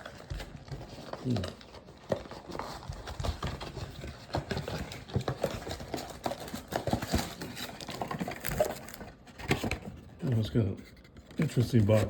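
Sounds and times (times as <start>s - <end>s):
cardboard and wrappers rustling: 0.0s - 12.0s.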